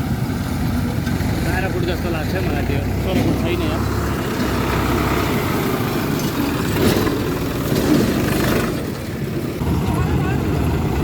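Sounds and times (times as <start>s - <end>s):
harvesting machine engine running: 0.6s - 11.0s.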